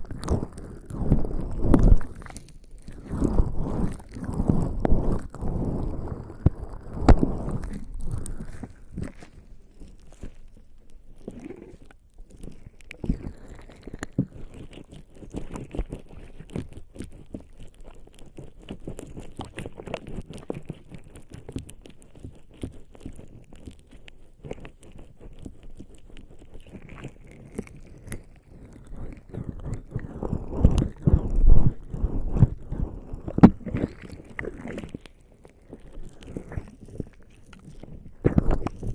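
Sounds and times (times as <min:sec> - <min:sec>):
wet skin rubbing on microphone: 0:00.0 - 0:38.9.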